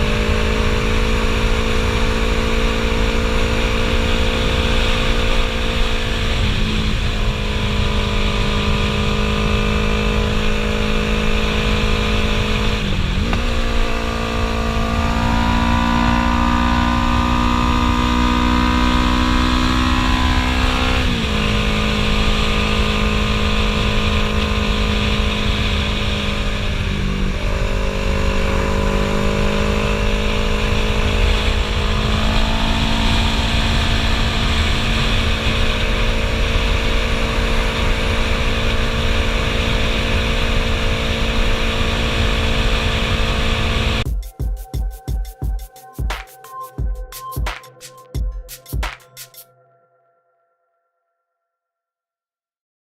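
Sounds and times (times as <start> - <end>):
motorcycle engine revving: 0.0 - 44.1.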